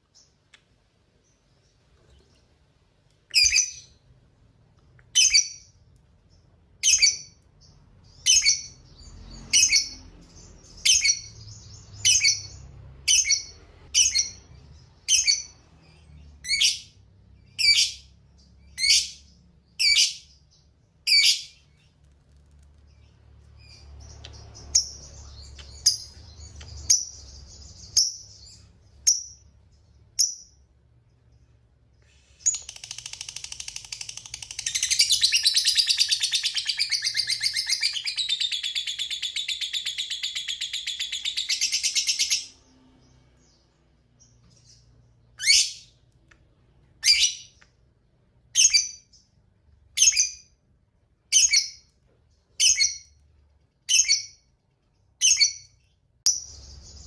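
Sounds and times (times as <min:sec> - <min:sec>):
soft bird chatter: 0:00.0 - 0:57.0.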